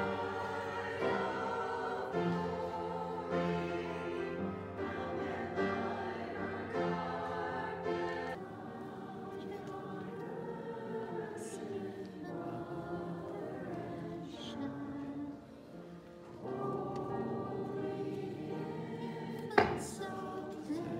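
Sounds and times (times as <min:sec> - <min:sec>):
choir singing sustained chords: 0:00.0 - 0:20.9.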